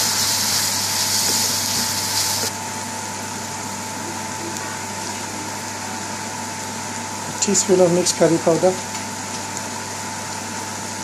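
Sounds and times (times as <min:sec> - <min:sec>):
onions sizzling in a frying pan: 0:00.0 - 0:11.0.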